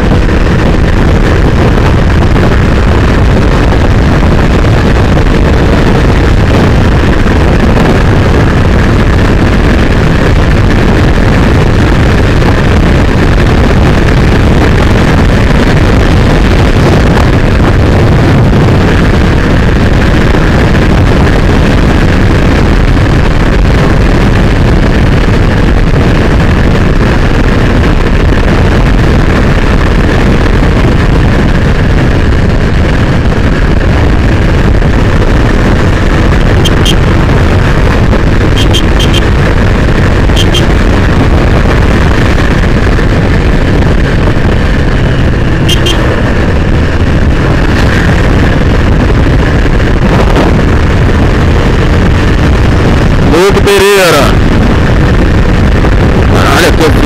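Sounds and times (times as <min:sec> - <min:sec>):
motorcycle engine running: 0:00.0 - 0:57.0
wind rushing on microphone: 0:00.0 - 0:57.0.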